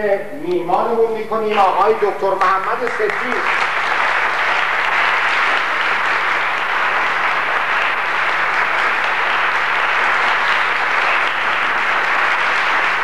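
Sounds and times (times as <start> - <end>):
audience applauding: 1.5 - 13.0.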